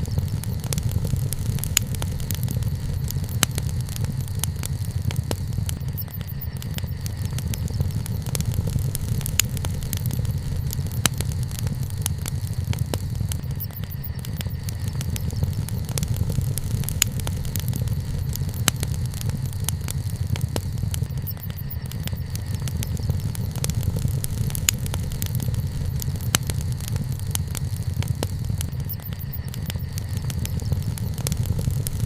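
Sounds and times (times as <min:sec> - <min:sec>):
burning wood crackling: 0:00.0 - 0:32.0
low rumble of flames: 0:00.0 - 0:32.0.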